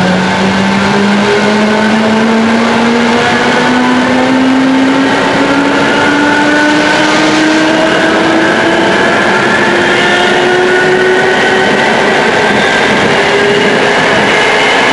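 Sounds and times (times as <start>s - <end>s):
train wheels rolling on track: 0.0s - 14.9s.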